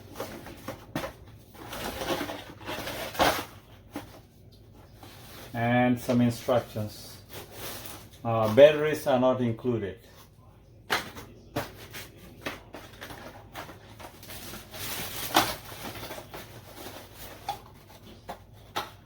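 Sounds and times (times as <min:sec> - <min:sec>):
packaging rustle: 0:00.0 - 0:09.0, 0:10.9 - 0:19.0.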